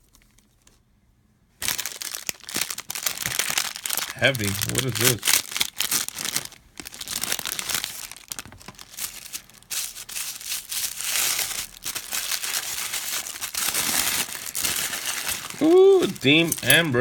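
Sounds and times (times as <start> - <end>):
packaging crinkling and tearing: 1.6 - 17.0.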